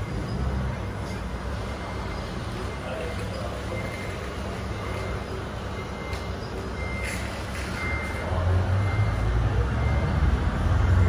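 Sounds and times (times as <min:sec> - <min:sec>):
reversing beeper: 0:00.0 - 0:11.0.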